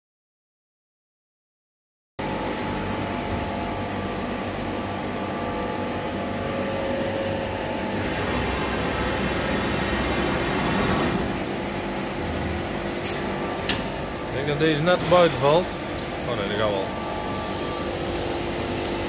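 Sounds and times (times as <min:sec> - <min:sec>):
laser cutting machine humming: 0:02.2 - 0:19.0.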